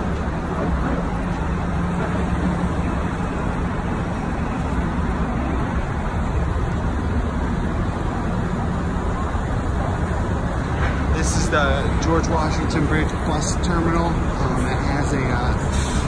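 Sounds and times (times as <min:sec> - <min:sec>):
cars and buses passing: 0:00.0 - 0:16.0
low engine hum: 0:00.0 - 0:16.0.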